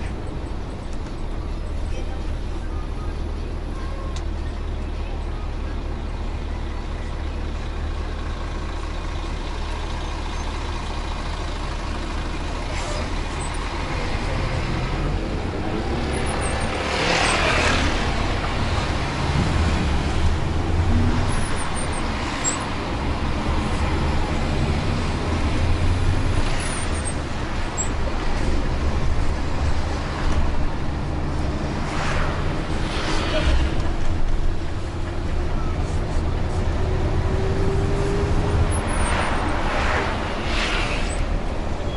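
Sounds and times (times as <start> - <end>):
bus engine rumble: 0.0 - 41.9.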